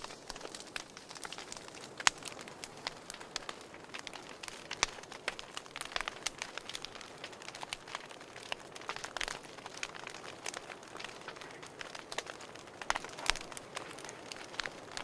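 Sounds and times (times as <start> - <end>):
firewood crackling and popping: 0.0 - 15.0
soft fire hiss: 0.0 - 15.0.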